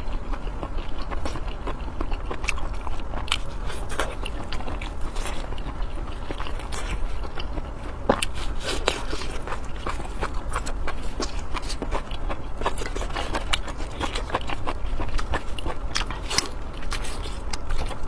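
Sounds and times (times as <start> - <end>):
person biting and chewing food: 0.0 - 18.0.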